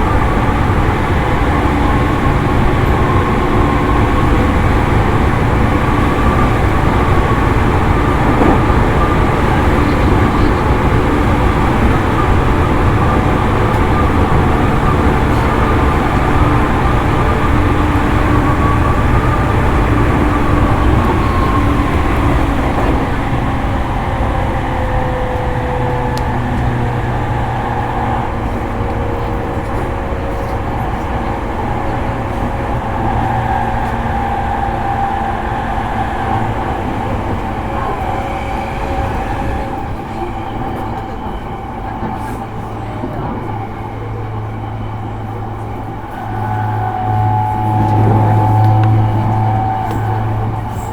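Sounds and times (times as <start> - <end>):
electric train motor whine: 0.0 - 50.9
train wheels rumbling on rail: 0.0 - 50.9.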